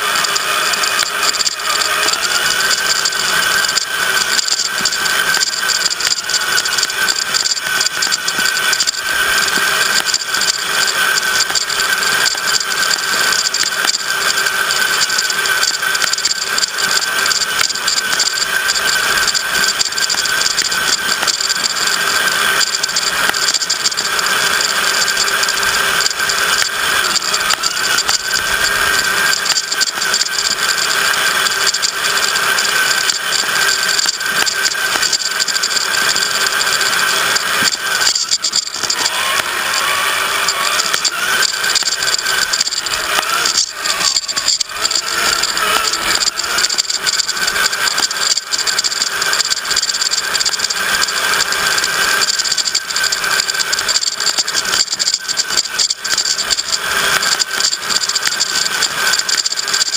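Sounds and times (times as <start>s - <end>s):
chassis rattling: 0.0s - 59.9s
toy truck motor whine: 0.0s - 59.9s.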